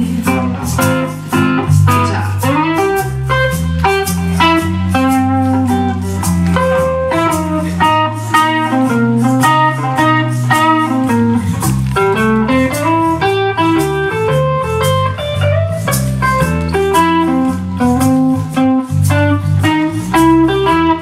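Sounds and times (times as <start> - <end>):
country band playing: 0.0 - 21.0
guitar melody: 0.0 - 21.0.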